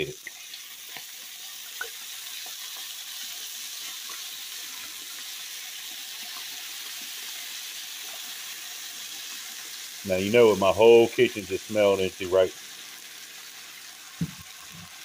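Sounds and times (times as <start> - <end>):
chicken sizzling in skillet: 0.0 - 15.0.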